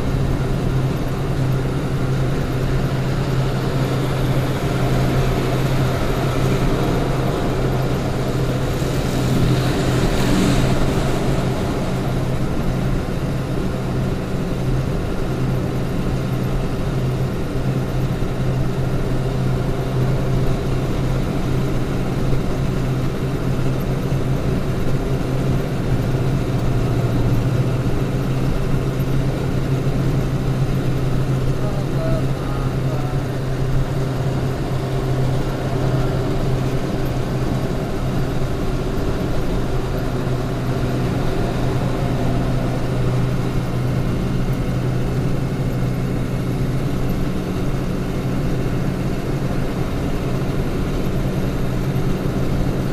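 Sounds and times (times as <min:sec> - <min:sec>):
low engine drone: 0:00.0 - 0:52.9.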